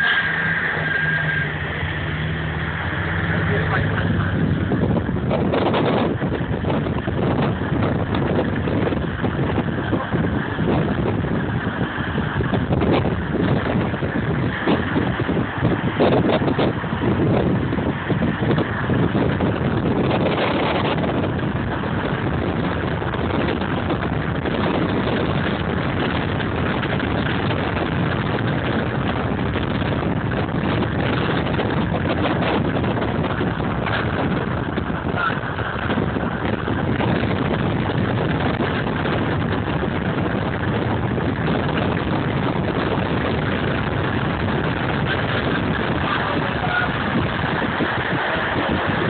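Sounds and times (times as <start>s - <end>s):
car engine running: 0.0s - 49.0s
wind and road noise: 0.0s - 49.0s.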